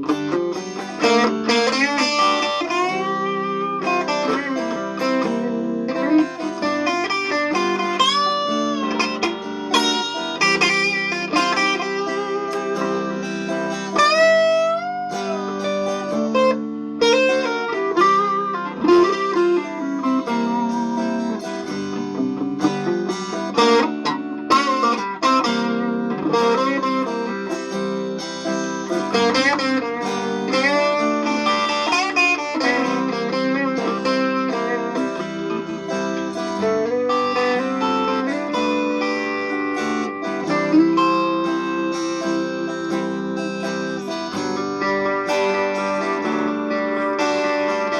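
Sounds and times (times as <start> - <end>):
electric guitar lead with string bends: 0.0 - 47.9.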